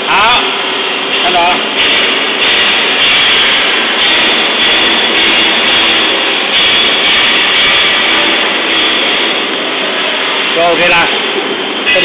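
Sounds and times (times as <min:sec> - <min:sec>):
swaging machine mechanical din: 0:00.0 - 0:12.0.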